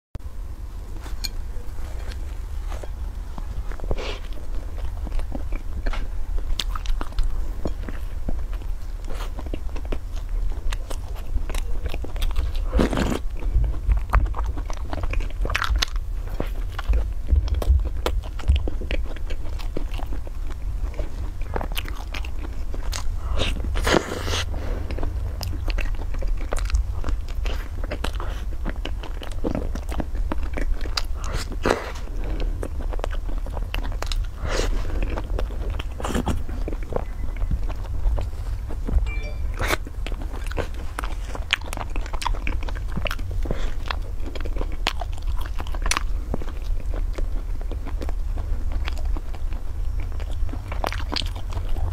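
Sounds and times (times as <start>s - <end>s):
chewing crunchy pastry: 0.8s - 51.9s.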